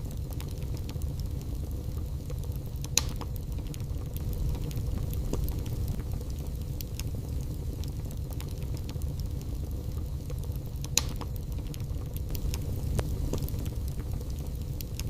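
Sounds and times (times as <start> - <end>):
fire crackles and pops: 0.0 - 15.0
fire roaring: 0.0 - 15.0.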